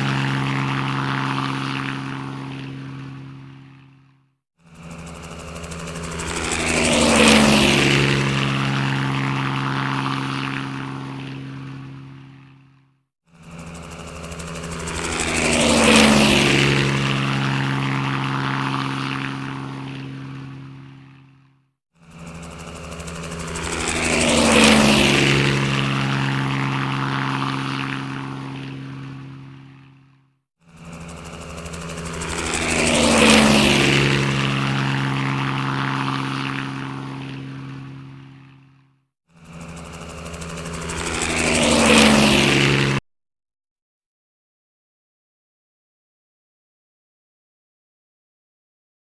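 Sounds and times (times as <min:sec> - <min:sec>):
helicopter flying past: 0:00.0 - 0:43.0.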